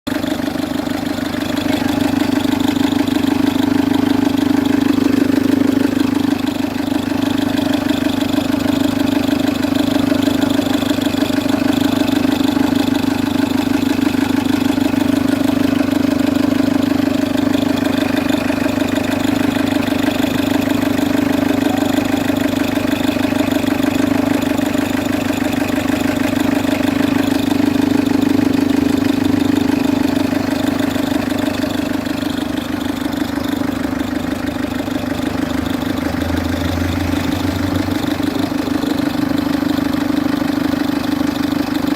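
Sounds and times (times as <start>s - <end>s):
diesel engine idling: 0.1s - 41.9s.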